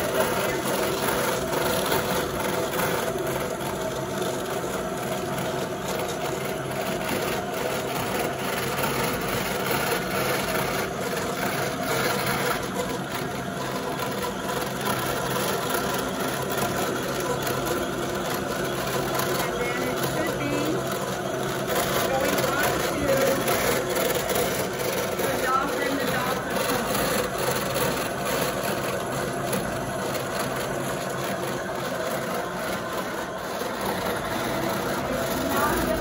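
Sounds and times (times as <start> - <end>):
carding machine humming: 0.0 - 36.0.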